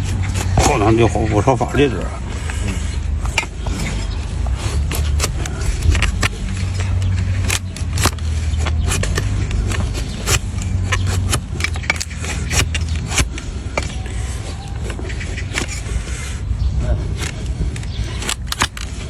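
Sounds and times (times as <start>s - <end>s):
tools clicking and scraping hoof: 0.0s - 19.0s.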